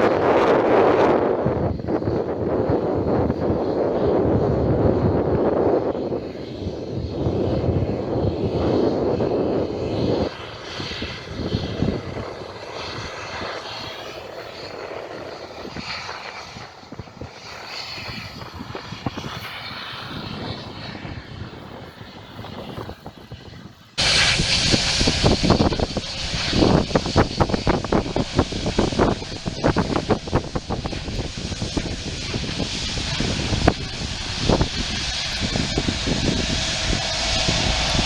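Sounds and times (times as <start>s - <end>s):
jet engines rumbling with whine: 0.0s - 38.0s
wind noise on microphone: 0.0s - 38.0s.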